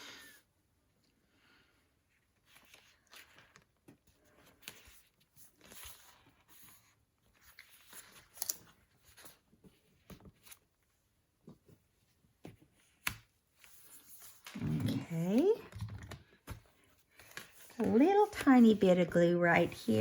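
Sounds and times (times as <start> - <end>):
paper rustling: 2.4 - 20.0.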